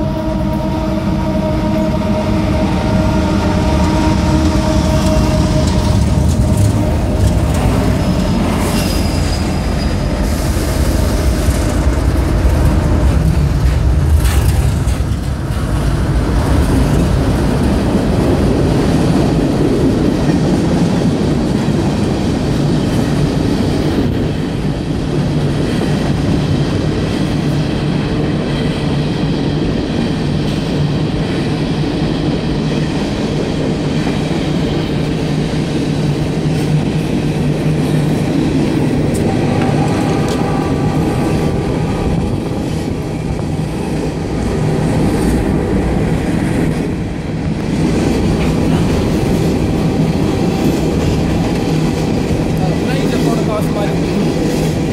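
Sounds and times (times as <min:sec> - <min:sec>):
diesel locomotive rumble: 0:00.0 - 0:54.9
train wheels clattering on rails: 0:03.5 - 0:54.9.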